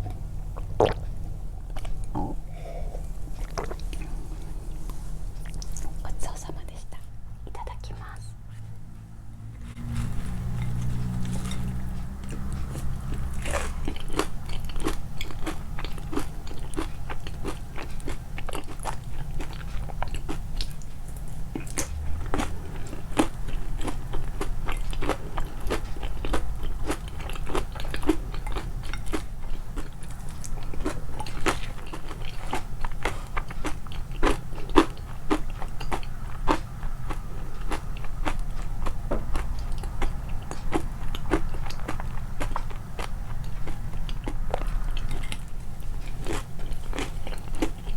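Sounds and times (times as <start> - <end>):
chewing crunchy cereal: 0.0 - 6.4, 9.6 - 47.9.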